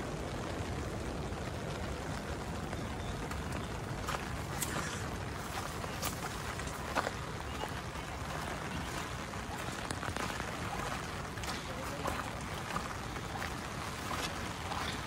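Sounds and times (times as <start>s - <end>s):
light rain falling: 0.0s - 15.0s
raindrops tapping on umbrella: 0.0s - 15.0s
wind rumbling on microphone: 0.0s - 15.0s.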